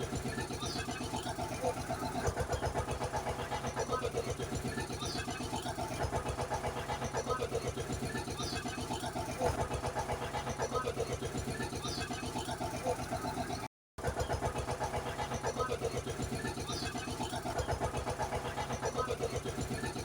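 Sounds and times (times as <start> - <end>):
looped engine throb: 0.0 - 20.0.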